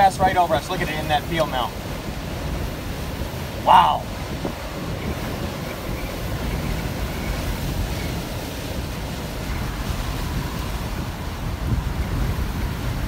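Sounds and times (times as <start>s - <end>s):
strong wind rushing: 0.0s - 13.0s
wind buffeting microphone: 0.0s - 13.0s.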